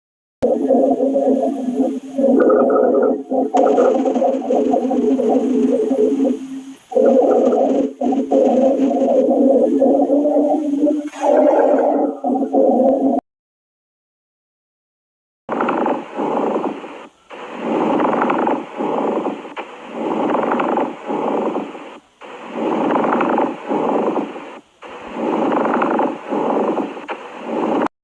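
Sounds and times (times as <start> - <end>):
lung breathing sounds: 0.4 - 13.2, 15.5 - 27.9.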